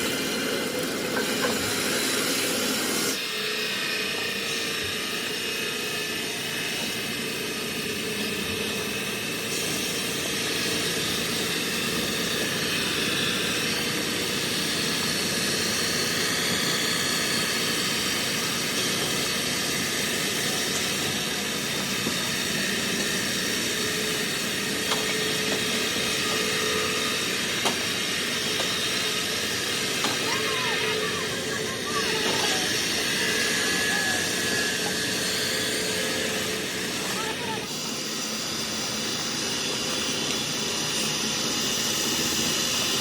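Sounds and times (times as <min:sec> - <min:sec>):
heavy machinery hissing: 0:00.0 - 0:43.0.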